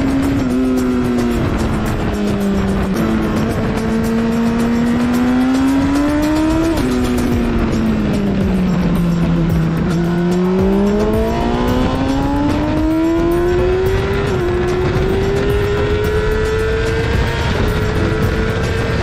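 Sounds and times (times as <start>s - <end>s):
heavy wind rush: 0.0s - 19.0s.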